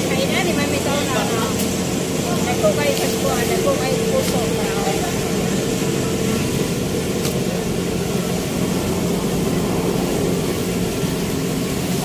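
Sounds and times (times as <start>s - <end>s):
broad rushing noise: 0.0s - 12.0s
engine drone: 0.0s - 12.0s
higher hum: 0.0s - 12.0s.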